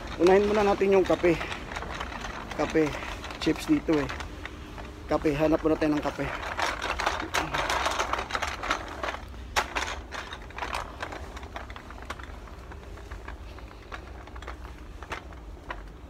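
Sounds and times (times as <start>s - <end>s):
shopping trolley rattling: 0.0s - 16.0s.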